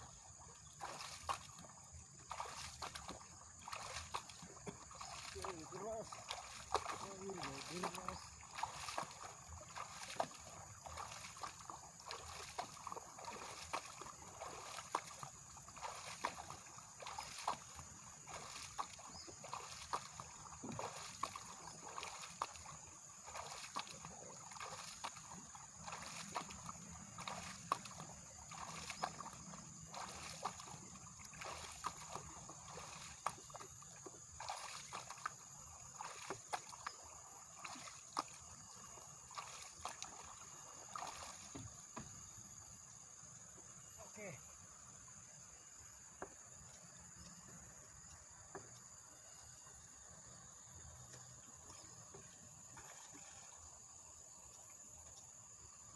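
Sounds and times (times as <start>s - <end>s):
river water splashing against raft: 0.0s - 55.9s.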